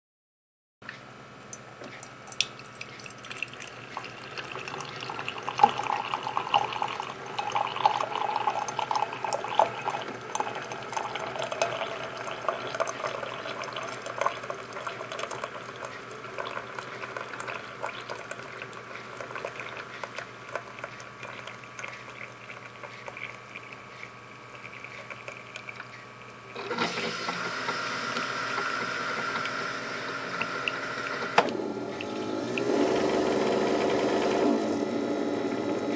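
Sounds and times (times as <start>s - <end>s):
coffee pouring into a mug: 2.3s - 34.8s
coffee brewer hiss: 3.3s - 25.7s, 26.5s - 35.9s.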